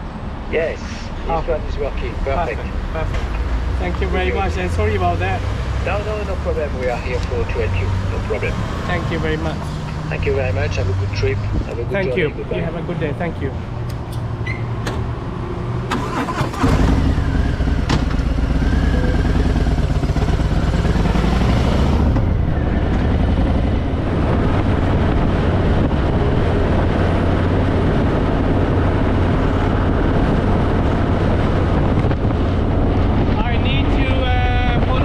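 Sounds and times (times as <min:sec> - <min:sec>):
motorcycle engine idling and accelerating: 0:01.9 - 0:11.8, 0:13.5 - 0:35.0.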